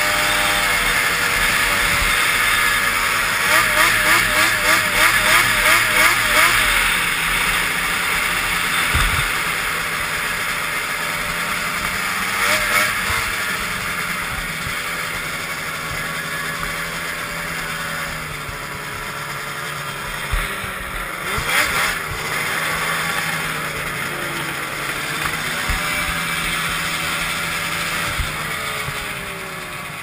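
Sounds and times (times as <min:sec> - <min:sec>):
snowmobile engine running: 0:00.0 - 0:30.0.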